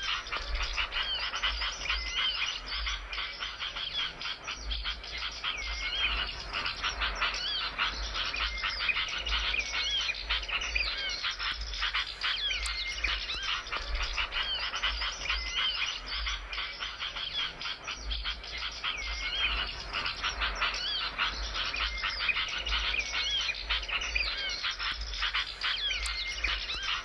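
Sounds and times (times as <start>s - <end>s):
songbirds singing: 0.0s - 27.0s.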